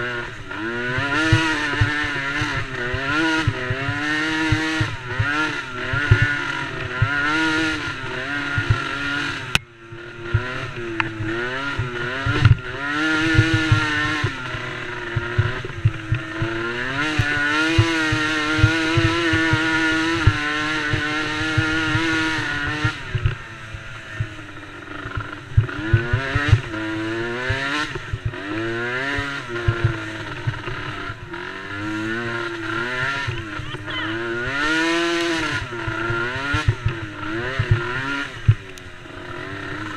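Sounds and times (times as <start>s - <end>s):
small atv engine revving: 0.0s - 39.9s.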